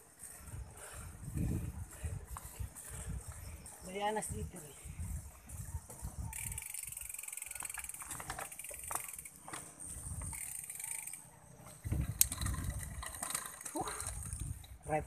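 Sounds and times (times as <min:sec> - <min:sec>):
bicycle freehub ticking: 0:00.0 - 0:15.0
wind and road rumble: 0:00.0 - 0:15.0.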